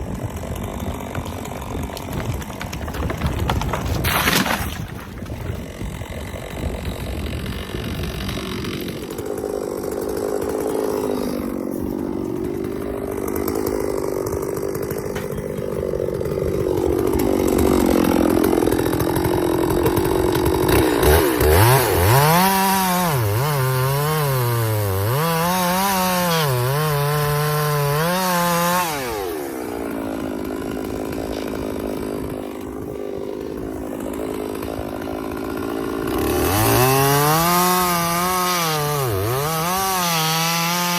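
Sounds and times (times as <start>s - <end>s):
chainsaw revving through wood: 0.0s - 40.9s.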